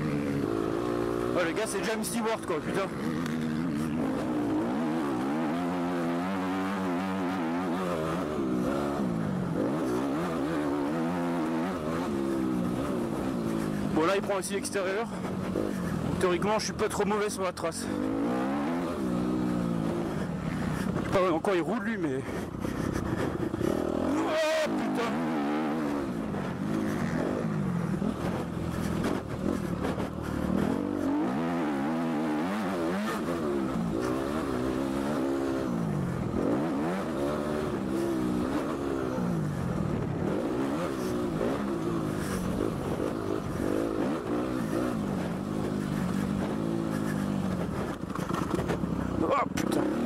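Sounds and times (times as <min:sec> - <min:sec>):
motocross engine revving: 0:00.0 - 0:21.7, 0:22.9 - 0:50.0.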